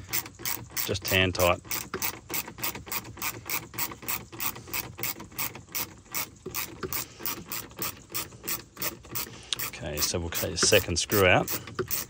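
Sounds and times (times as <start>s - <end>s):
ratcheting screwdriver clicking: 0.0s - 12.0s.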